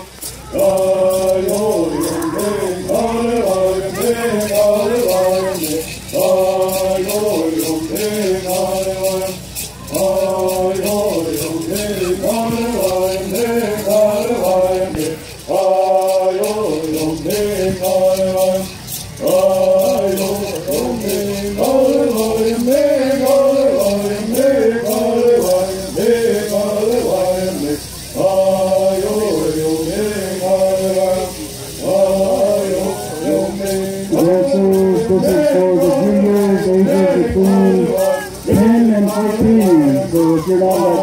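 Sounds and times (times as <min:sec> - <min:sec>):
gourd rattles shaken: 0:00.0 - 0:41.0
men singing in unison: 0:00.0 - 0:41.0.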